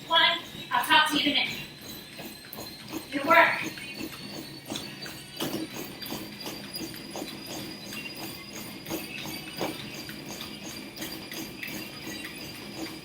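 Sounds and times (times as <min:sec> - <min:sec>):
running footfalls on treadmill: 0:00.0 - 0:13.0.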